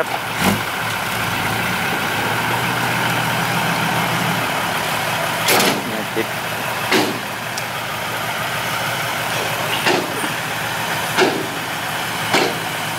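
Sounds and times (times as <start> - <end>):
diesel truck engine running: 0.0 - 12.9.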